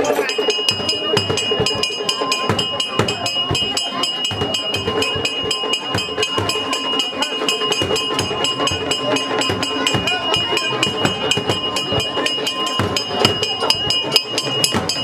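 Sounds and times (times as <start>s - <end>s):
crowd voices: 0.0s - 15.0s
hand cymbals clashing: 0.0s - 15.0s.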